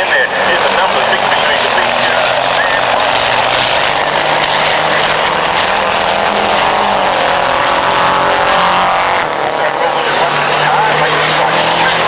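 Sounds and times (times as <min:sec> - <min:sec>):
truck engines droning: 0:00.0 - 0:12.0.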